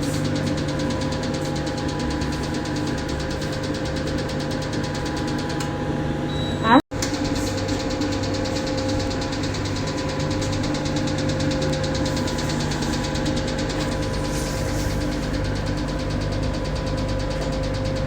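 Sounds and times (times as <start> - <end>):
rapid ticking: 0.0 - 5.7, 7.0 - 18.0
machine humming: 0.0 - 18.0.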